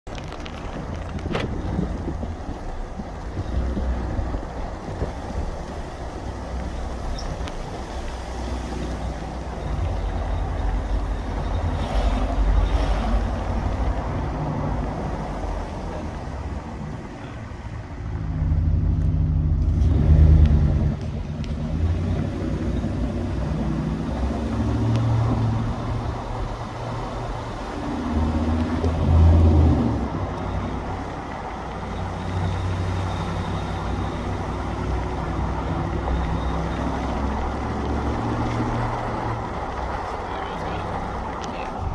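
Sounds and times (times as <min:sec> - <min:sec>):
pickup truck engine drone: 0:00.1 - 0:41.9.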